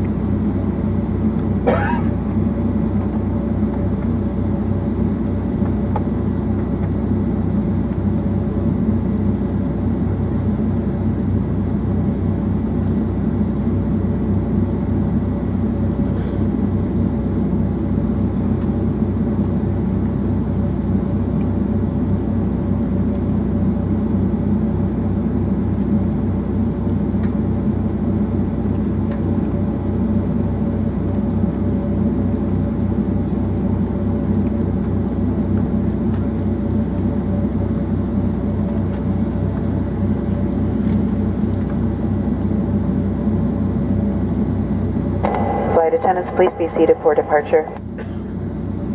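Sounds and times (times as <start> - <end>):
jet engines rumbling and humming: 0.0 - 48.9.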